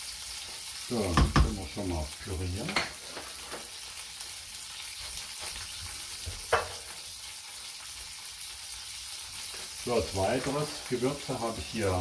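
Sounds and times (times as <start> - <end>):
seafood sizzling in oil: 0.0 - 12.0.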